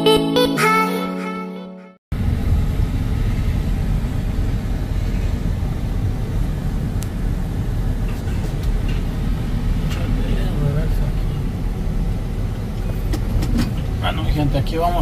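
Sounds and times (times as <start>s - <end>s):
vehicle engine and tyres rumbling: 2.1s - 15.0s.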